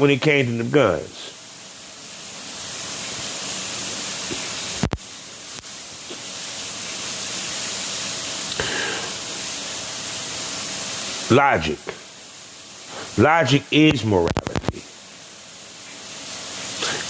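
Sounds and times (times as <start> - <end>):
loud steady hiss: 0.0 - 17.0.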